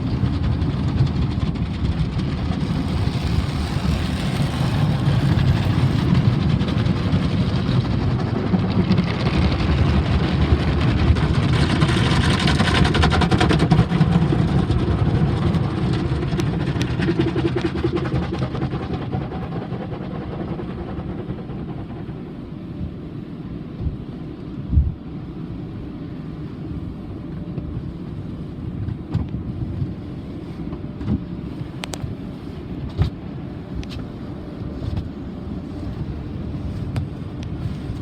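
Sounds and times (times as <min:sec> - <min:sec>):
car wash water spray and brushes: 0:00.0 - 0:38.0.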